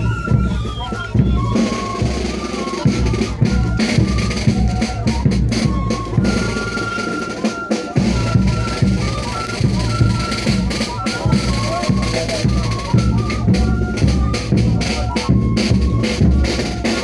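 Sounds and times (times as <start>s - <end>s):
drums beating: 0.0s - 17.0s
high held wind melody: 0.0s - 17.0s.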